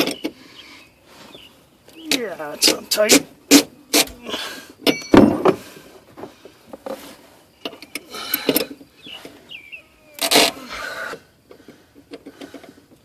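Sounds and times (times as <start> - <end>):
hand tools clicking and scraping: 1.9 - 13.0.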